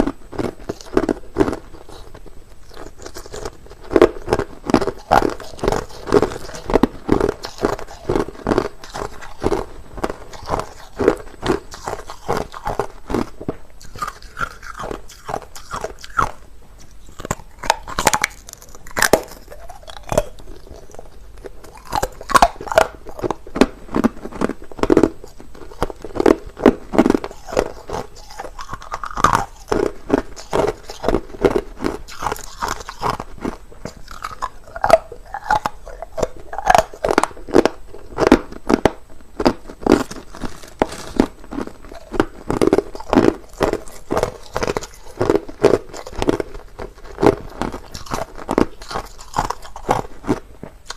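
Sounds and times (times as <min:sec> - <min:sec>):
person chewing crushed ice: 0:00.0 - 0:50.9.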